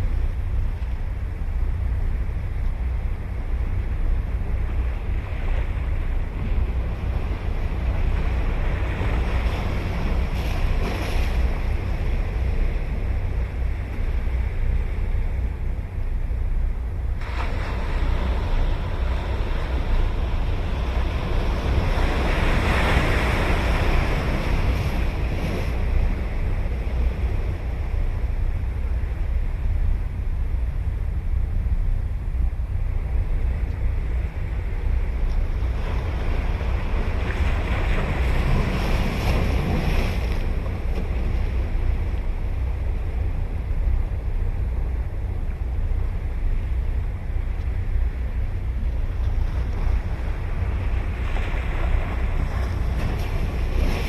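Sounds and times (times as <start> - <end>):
ocean surf washing onto beach: 0.0 - 16.1, 16.9 - 31.7, 32.6 - 54.0
wind on microphone: 0.0 - 54.0.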